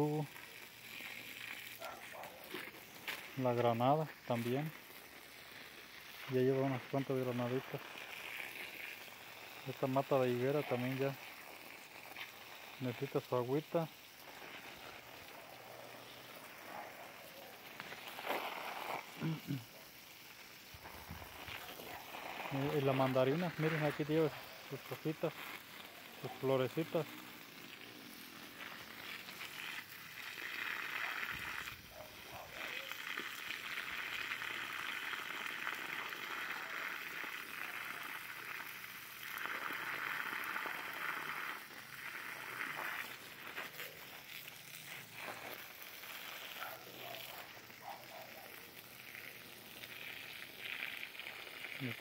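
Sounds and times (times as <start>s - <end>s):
garden hose water splashing: 0.0s - 52.0s.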